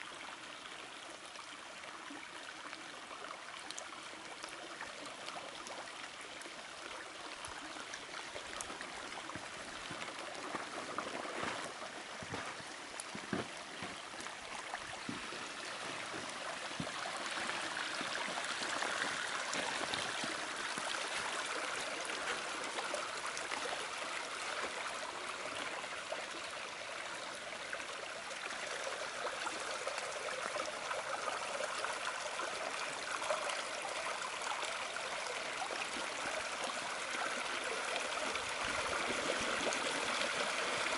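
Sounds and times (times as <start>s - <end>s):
creek rushing over rocks: 5.0s - 40.9s.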